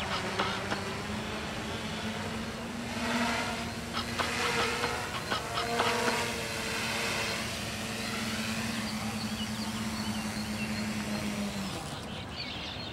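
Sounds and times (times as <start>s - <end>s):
electric motors and propellers humming: 0.0s - 12.9s.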